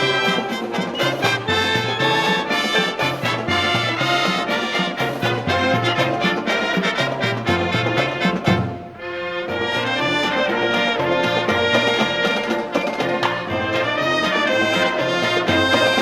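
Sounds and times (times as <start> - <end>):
marching band playing a march: 0.0 - 16.0.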